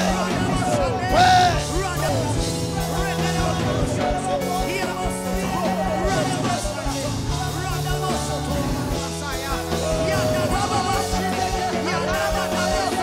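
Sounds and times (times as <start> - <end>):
voices singing and crying out: 0.0 - 13.0
worship music with keyboard chords: 0.0 - 13.0.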